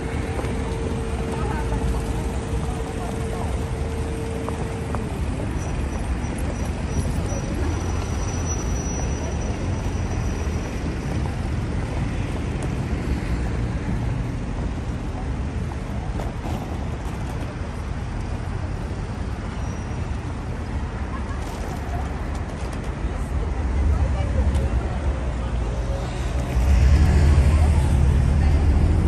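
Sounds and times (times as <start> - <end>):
passing cars and buses: 0.0 - 29.0.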